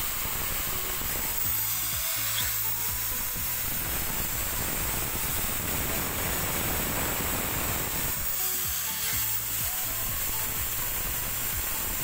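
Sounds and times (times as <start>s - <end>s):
drill motor whirring: 0.0s - 12.0s.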